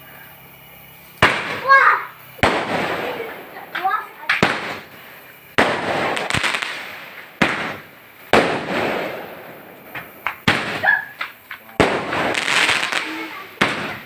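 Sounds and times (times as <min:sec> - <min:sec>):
fireworks loud bangs: 0:00.0 - 0:14.0
small firework pops: 0:00.7 - 0:14.0.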